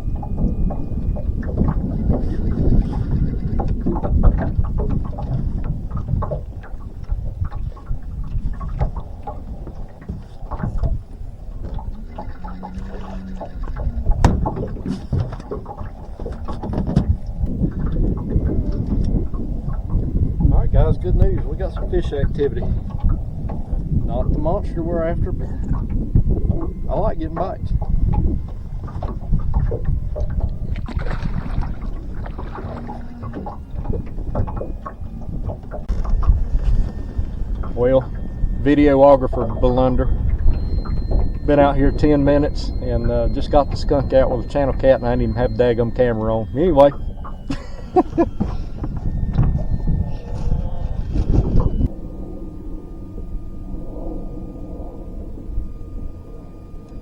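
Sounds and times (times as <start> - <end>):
water splashes and knocks: 0.0 - 51.9
brief low hum: 0.0 - 57.0
steady low rumble: 0.0 - 57.0.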